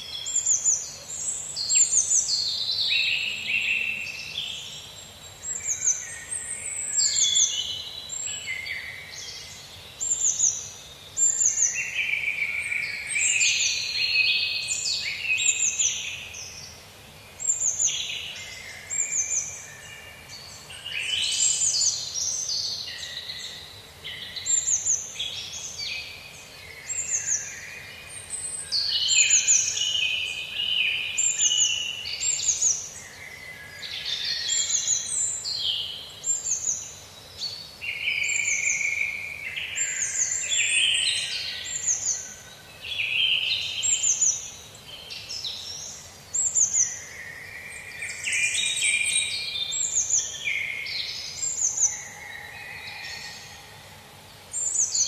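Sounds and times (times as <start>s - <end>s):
faint steady hiss: 0.0s - 55.0s
songbirds chirping and singing: 0.0s - 55.0s.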